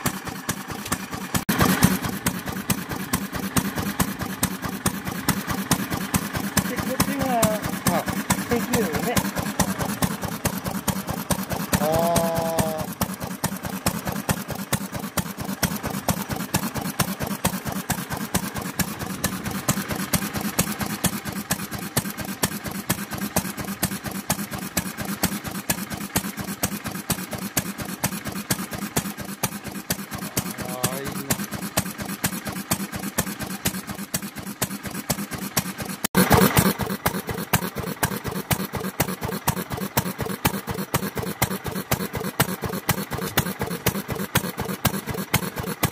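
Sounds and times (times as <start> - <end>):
stationary oil engine running: 0.0 - 45.9.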